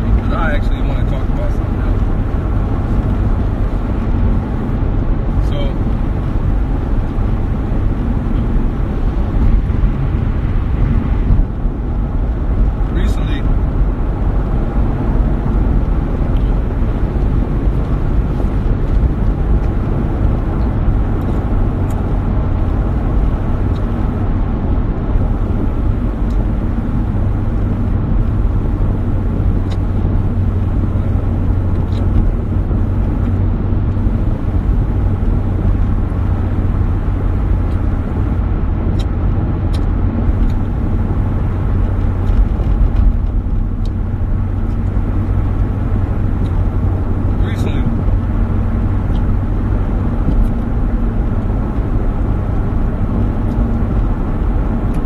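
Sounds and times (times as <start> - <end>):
vehicle running rumble: 0.0 - 55.0.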